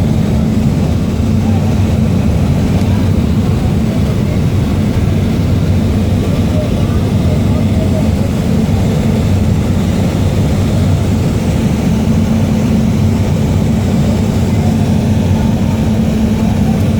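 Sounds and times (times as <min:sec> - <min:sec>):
propeller aircraft engine drone: 0:00.0 - 0:16.9.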